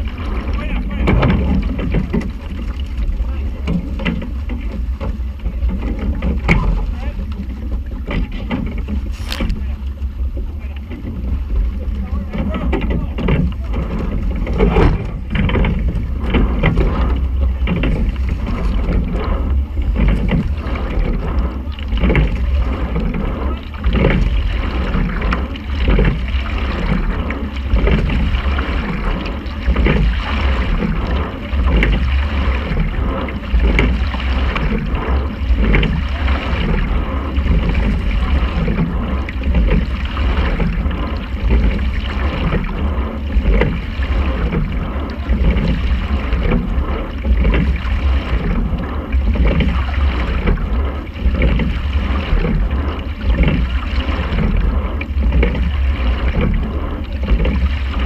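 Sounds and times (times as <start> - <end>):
oars stroking water: 0.0 - 58.0
steady low rumble: 0.0 - 58.0.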